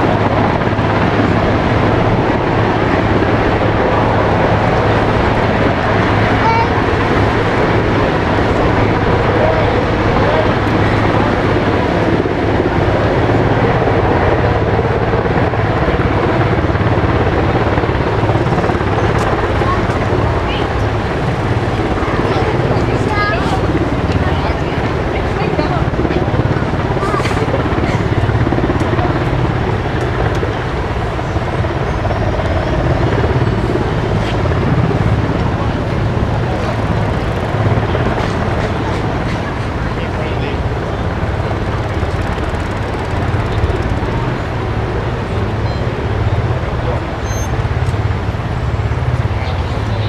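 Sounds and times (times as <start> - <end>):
helicopter rotor noise: 0.0 - 50.0.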